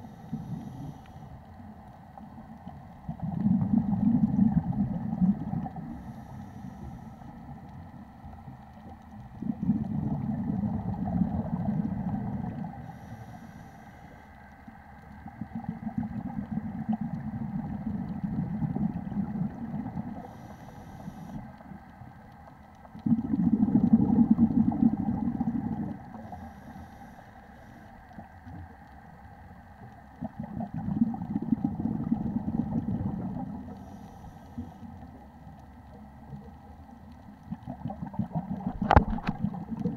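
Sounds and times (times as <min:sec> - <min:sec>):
exhaled bubbles underwater: 0:00.0 - 0:13.3, 0:15.0 - 0:28.8, 0:29.7 - 0:39.9
faint regulator hiss: 0:00.0 - 0:39.9.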